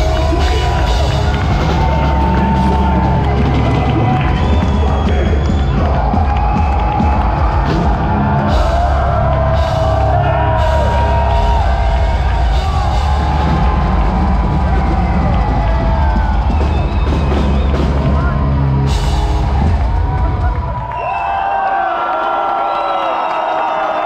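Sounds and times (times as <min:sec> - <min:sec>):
bass guitar: 0:00.0 - 0:20.9
heavy distorted guitars: 0:00.0 - 0:20.9
pounding drums: 0:00.0 - 0:21.4
crowd cheering: 0:00.0 - 0:24.0.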